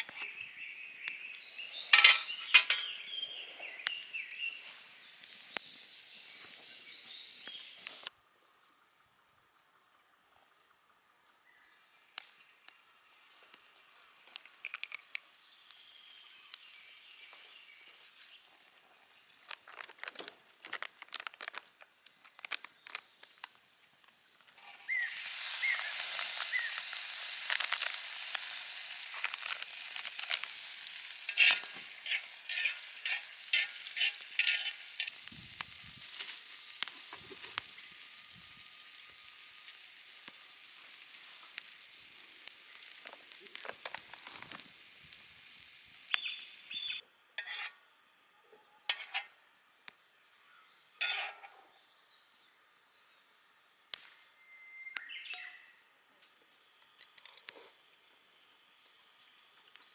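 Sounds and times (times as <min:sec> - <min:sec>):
food sizzling in a hot pan: 0:00.0 - 0:08.1, 0:10.8 - 0:52.2.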